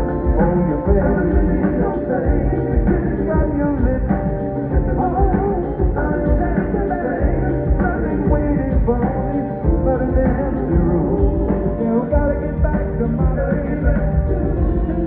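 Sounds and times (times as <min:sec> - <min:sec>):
drums: 0:00.0 - 0:15.0
electric guitar: 0:00.0 - 0:15.0
piano: 0:00.0 - 0:15.0.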